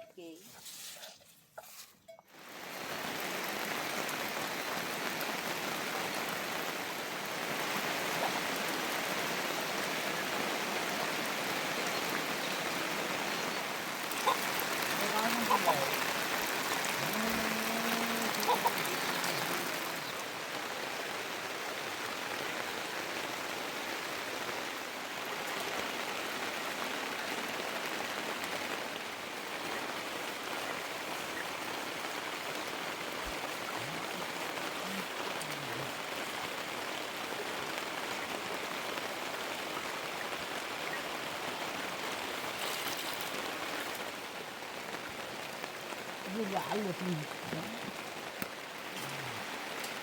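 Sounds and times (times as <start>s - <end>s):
heavy rain falling: 2.3s - 50.0s.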